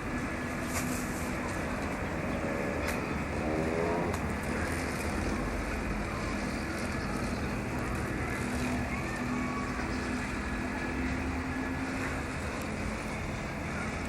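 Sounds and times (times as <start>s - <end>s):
passing cars rumbling: 0.0s - 14.0s.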